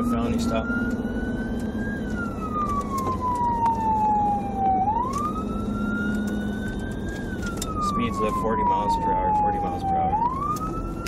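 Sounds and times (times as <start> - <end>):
car engine and tyres droning: 0.0 - 11.0
police siren wailing: 0.0 - 11.0.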